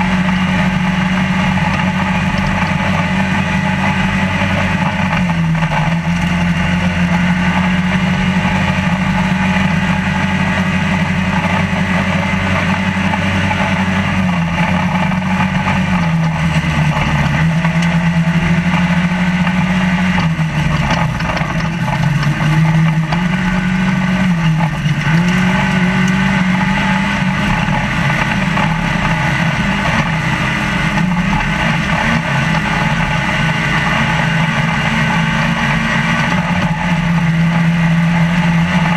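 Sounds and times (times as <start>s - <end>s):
loud driving noise: 0.0s - 38.9s
truck engine running hard: 0.0s - 38.9s.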